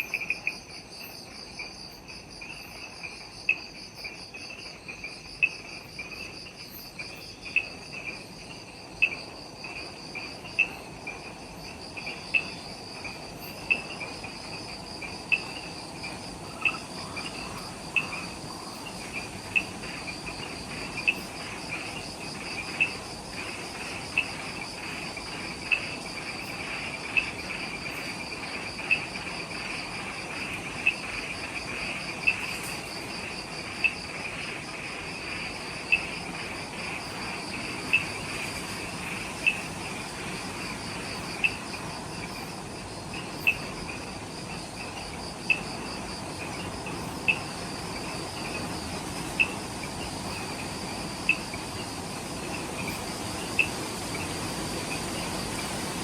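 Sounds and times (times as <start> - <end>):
insect chirping: 0.0 - 56.0
insects trilling: 0.0 - 56.0.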